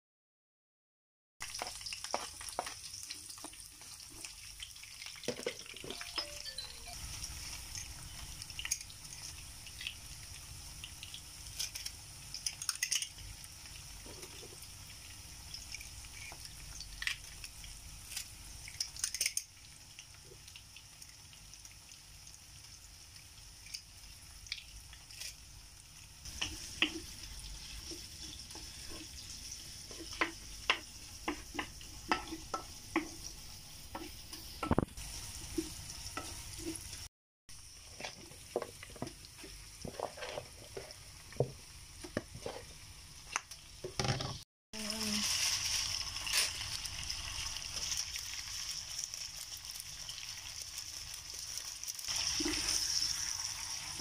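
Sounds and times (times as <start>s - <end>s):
onions sizzling in oil: 1.4s - 54.0s.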